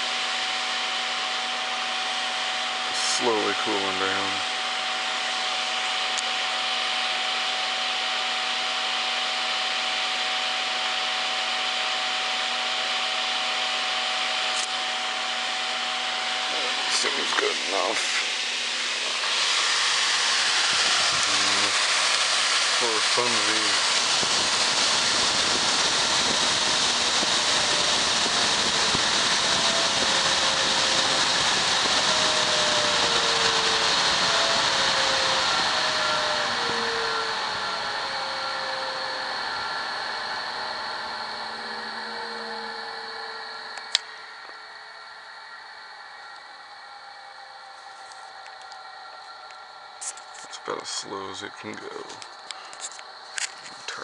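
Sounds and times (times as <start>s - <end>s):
space heater fan running: 0.0s - 54.0s.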